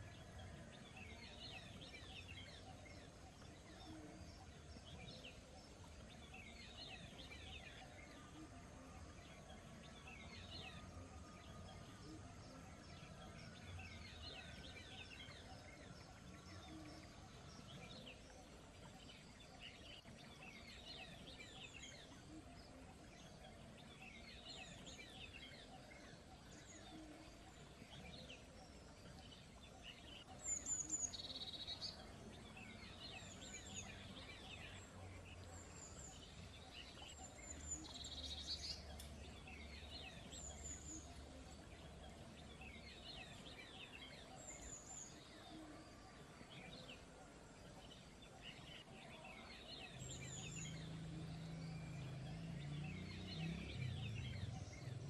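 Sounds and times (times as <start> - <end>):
faint bird chirps: 0.0 - 55.0
low background noise: 0.0 - 55.0.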